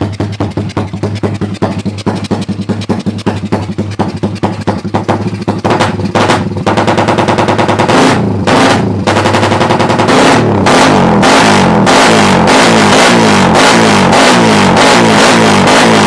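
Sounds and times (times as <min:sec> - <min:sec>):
exhaust pops: 0:00.0 - 0:16.0
motorcycle engine revving: 0:00.0 - 0:16.0.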